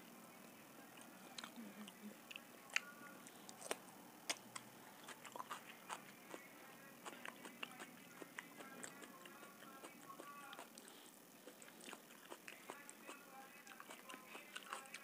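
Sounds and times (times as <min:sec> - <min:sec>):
chewing with wet mouth clicks: 0:01.0 - 0:15.0.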